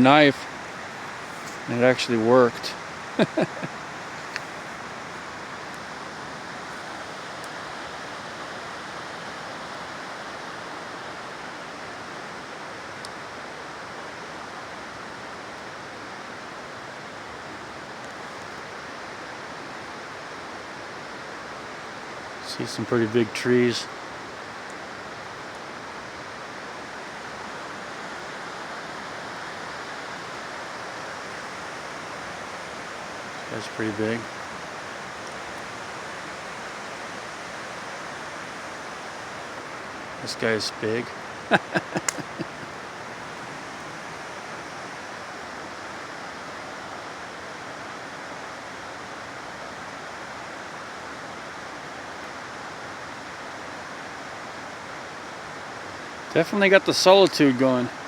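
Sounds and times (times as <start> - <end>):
creek rushing: 0.0 - 58.0.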